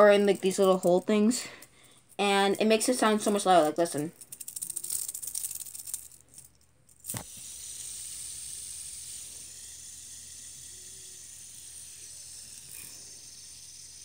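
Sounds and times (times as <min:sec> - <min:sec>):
fidget spinner whirring: 0:00.0 - 0:14.0.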